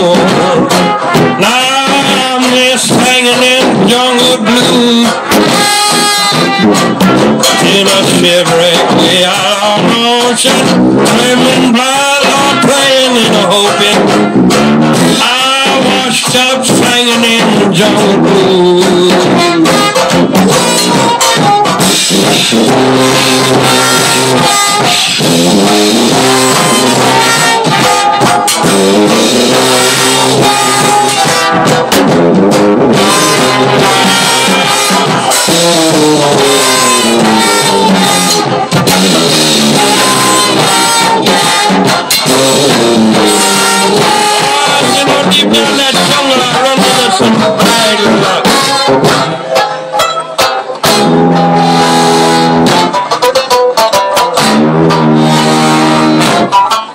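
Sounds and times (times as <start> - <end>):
brass band playing: 0.0 - 56.9.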